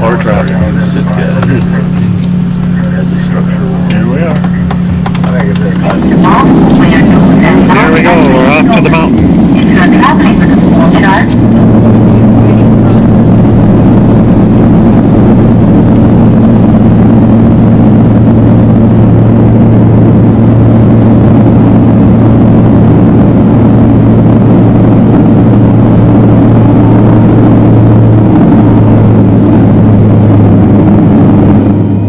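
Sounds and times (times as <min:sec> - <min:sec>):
turboprop cabin drone: 0:00.0 - 0:32.0.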